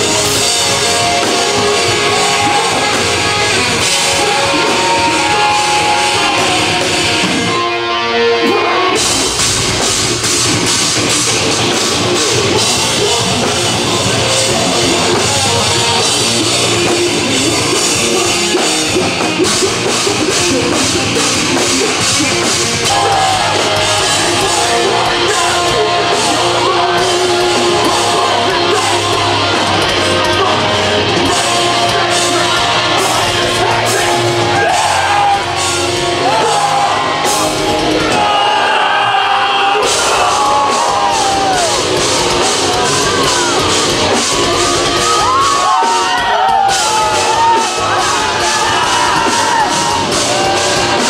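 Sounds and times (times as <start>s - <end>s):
heavy metal music with vocals: 0.0s - 51.0s.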